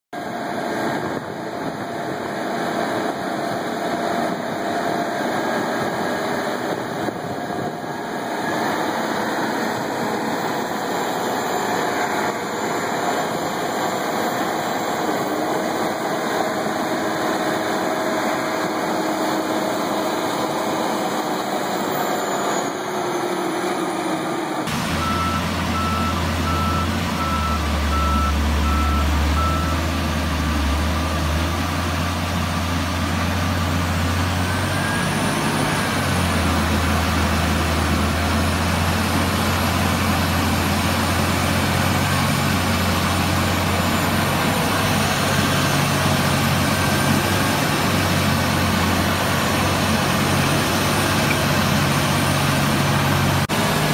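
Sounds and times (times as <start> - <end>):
tractor diesel engine running: 0.1 - 53.9.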